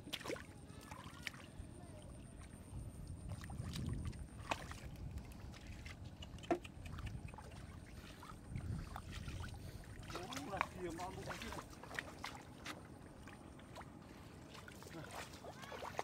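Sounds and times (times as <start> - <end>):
mud and water squelching: 0.0 - 16.0.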